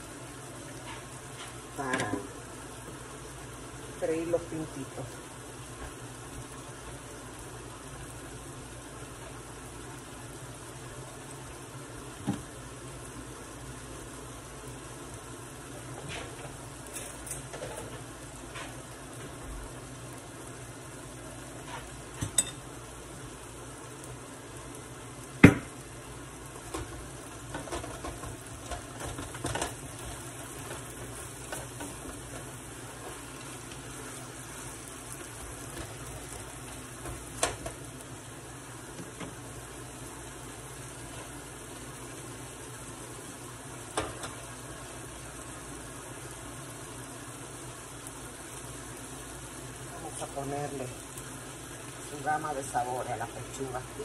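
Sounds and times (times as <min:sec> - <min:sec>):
chicken sizzling in a skillet: 0:00.0 - 0:54.0.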